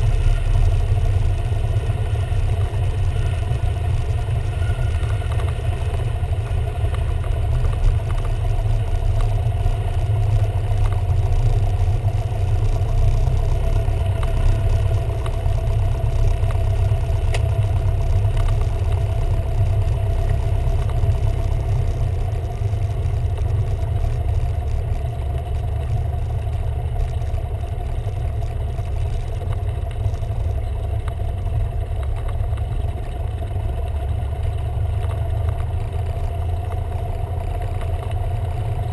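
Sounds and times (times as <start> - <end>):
small plane engine drone: 0.0 - 38.9.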